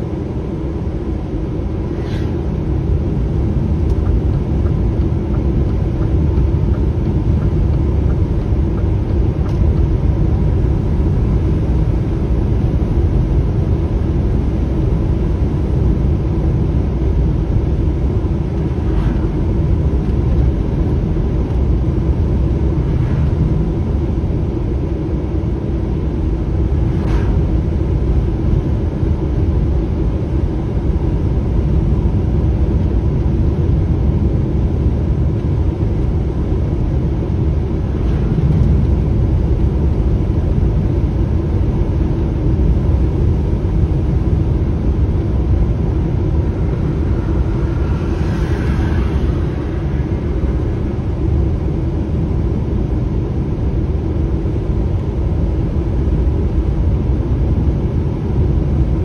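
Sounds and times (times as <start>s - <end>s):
truck engine and road rumble: 0.0s - 59.0s.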